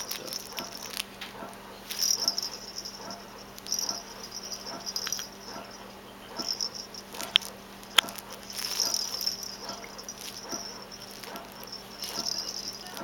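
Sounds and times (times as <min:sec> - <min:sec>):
rhythmic pumping hiss: 0:00.0 - 0:13.0
steady low hum: 0:00.0 - 0:13.0
wet chewing on toy: 0:00.0 - 0:13.0.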